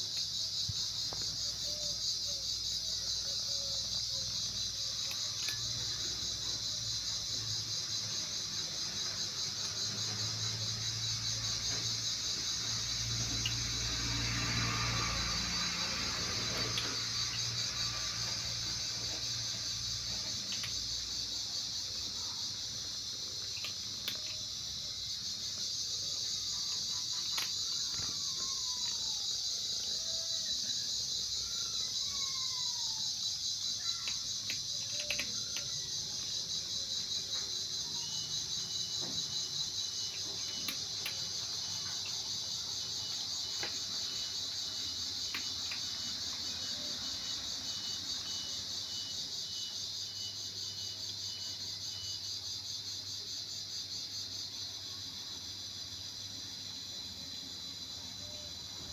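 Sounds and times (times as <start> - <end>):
insects chirping: 0.0 - 58.9.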